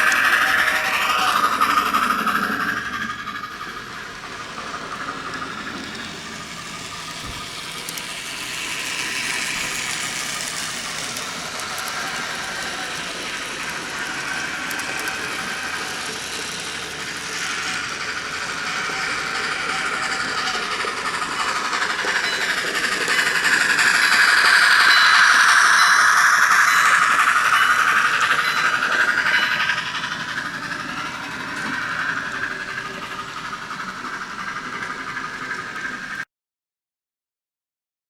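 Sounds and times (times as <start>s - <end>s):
model train running on track: 0.0s - 36.2s.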